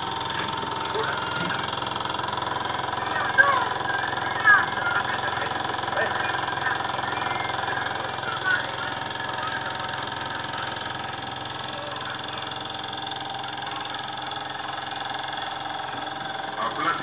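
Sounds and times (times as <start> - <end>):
film projector motor humming and rattling: 0.0 - 17.0.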